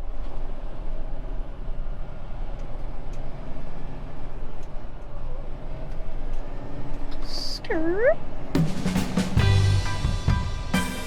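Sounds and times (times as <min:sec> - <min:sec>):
truck diesel engine rumble: 0:00.0 - 0:11.0.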